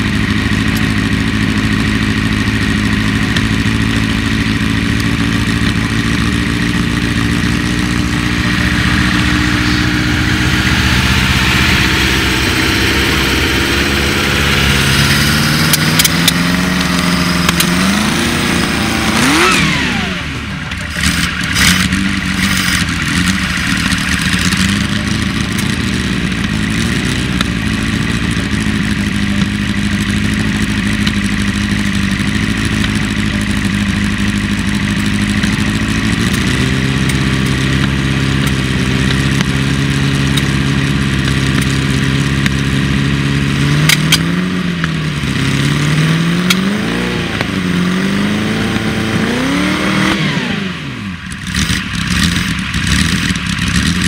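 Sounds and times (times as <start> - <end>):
engine throttle blips: 0.0 - 54.0
race car engine idling: 0.0 - 54.0.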